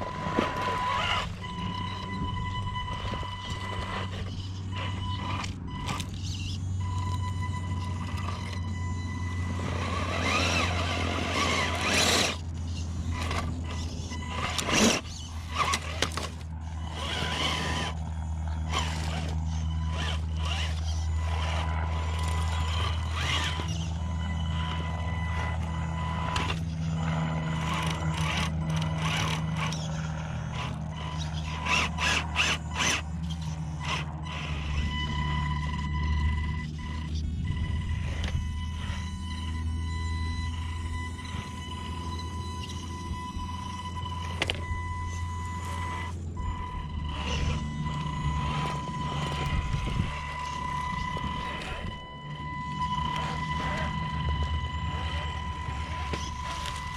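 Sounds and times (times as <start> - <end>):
toy car motor and gear whine: 0.0 - 56.9.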